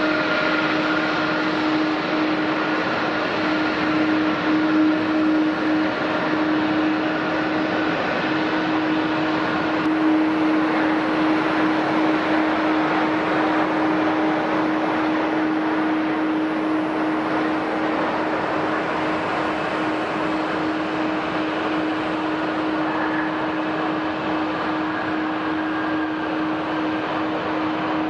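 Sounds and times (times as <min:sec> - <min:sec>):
airliner engines humming: 0:00.0 - 0:28.0
high engine whine: 0:00.0 - 0:28.0.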